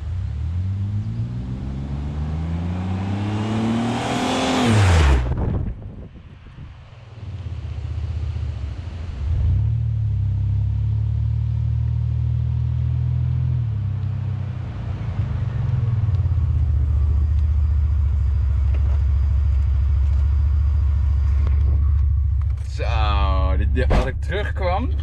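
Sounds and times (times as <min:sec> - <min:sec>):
truck exhaust rumble accelerating: 0:00.0 - 0:25.0.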